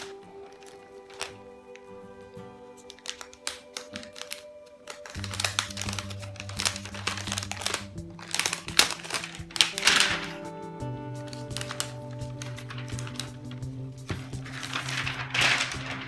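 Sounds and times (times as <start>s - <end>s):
background music sustained notes: 0.0s - 16.0s
plastic film crinkling: 0.0s - 16.0s.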